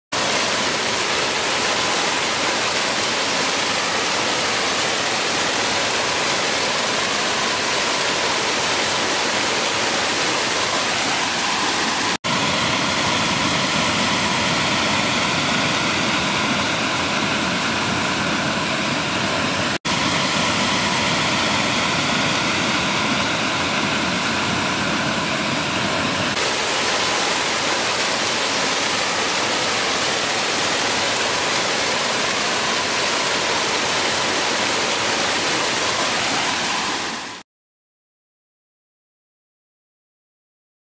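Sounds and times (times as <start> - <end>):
waterfall rushing and splashing: 0.1 - 37.4.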